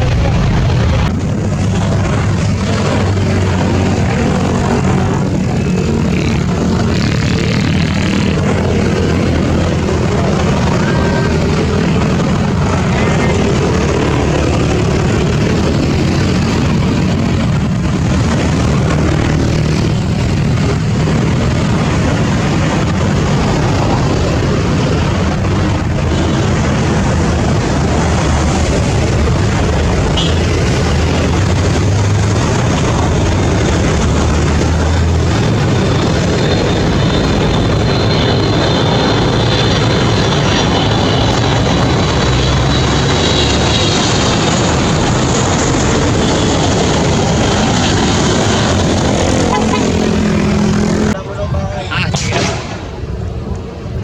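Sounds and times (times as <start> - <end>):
aircraft engines running: 0.0 - 54.0
high whine: 0.0 - 54.0.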